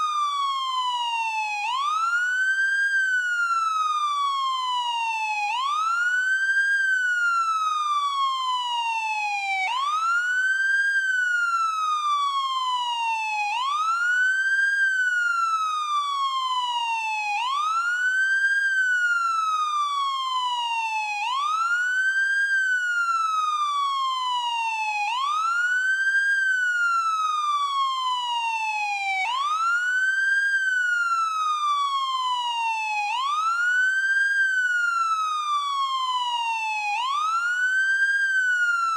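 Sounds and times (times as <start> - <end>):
police siren wailing: 0.0 - 38.9.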